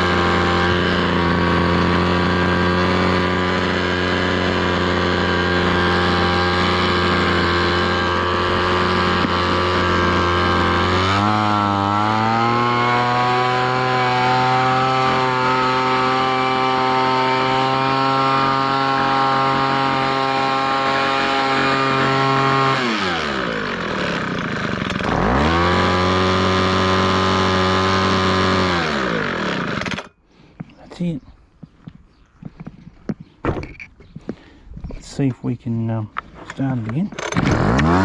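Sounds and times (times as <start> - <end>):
leaf blower engine revving: 0.0 - 30.5, 36.6 - 38.0.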